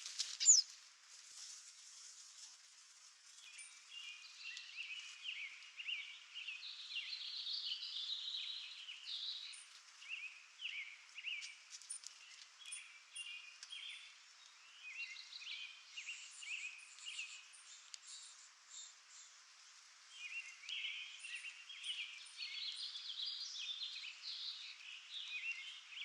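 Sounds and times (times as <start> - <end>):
faint outdoor hiss: 0.0 - 26.0
birds chirping chorus: 0.4 - 0.7, 3.3 - 26.0.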